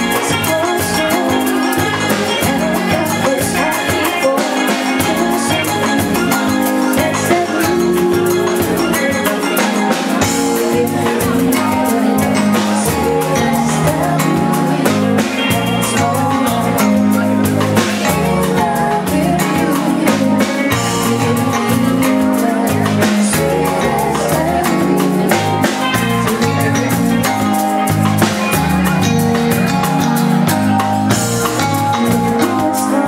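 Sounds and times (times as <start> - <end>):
woman singing: 0.0 - 27.4, 32.0 - 33.0
bass guitar: 0.0 - 33.0
drum kit: 0.0 - 33.0
electric guitar: 0.0 - 33.0
keyboard: 0.0 - 33.0.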